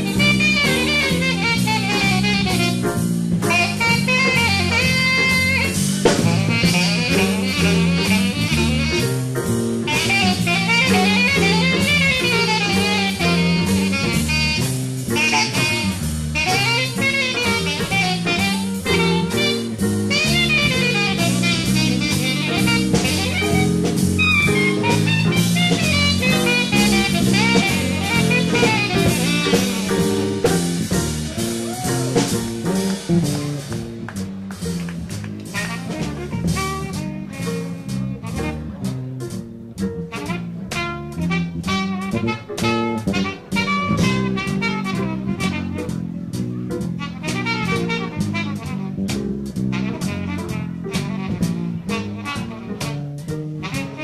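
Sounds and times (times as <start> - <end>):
big band playing jazz: 0.0 - 54.0.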